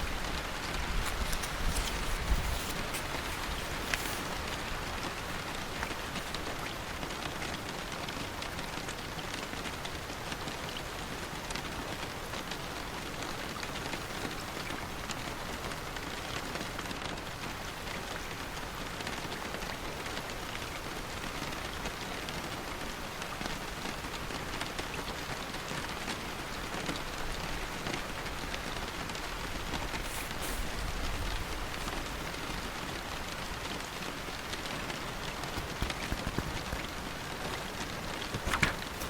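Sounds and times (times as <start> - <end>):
rain on hard surface: 0.0 - 39.0.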